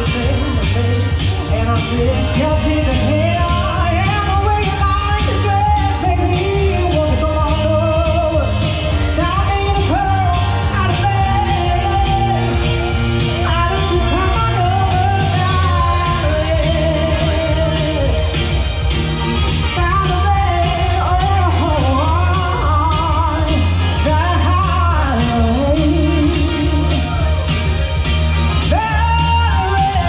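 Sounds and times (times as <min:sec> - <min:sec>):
woman singing into microphone: 0:00.0 - 0:18.8, 0:19.6 - 0:27.4, 0:28.6 - 0:30.0
backing music with steady beat: 0:00.0 - 0:30.0.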